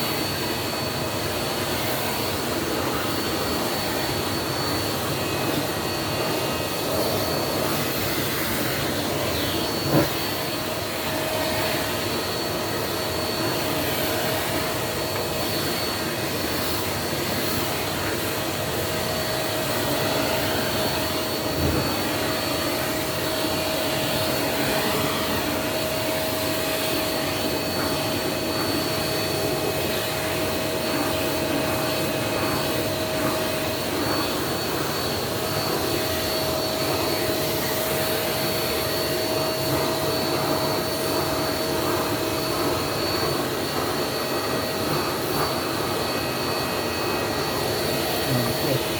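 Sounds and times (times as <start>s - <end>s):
vacuum cleaner whine: 0.0s - 48.9s.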